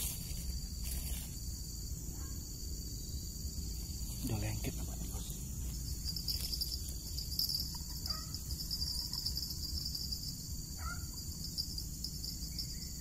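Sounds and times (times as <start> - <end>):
crickets and insects chorus: 0.0 - 13.0
low background rumble: 0.0 - 13.0.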